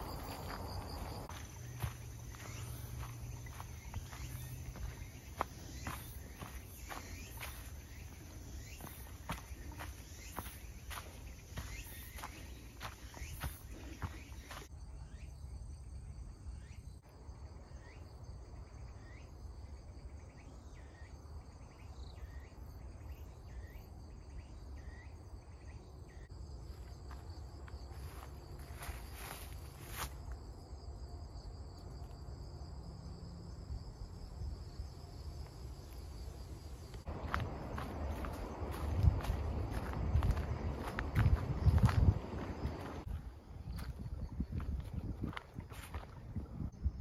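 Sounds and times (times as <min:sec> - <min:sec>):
crickets and insects trilling: 0:00.0 - 0:47.0.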